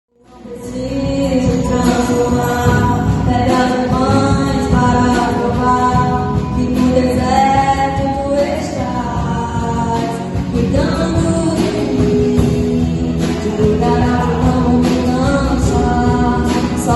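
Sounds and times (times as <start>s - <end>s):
band accompaniment: 0.2s - 16.9s
people singing worship song: 0.4s - 9.3s, 9.9s - 16.9s.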